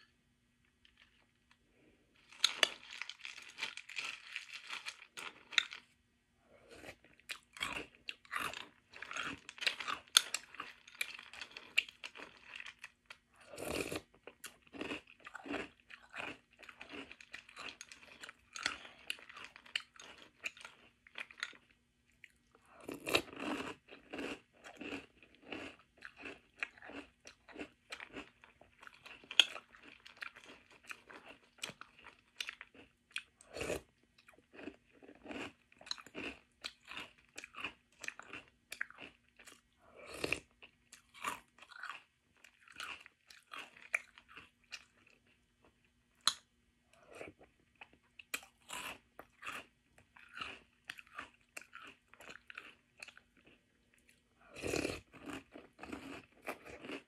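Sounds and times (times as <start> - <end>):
crunching and chewing cereal: 0.0 - 57.0.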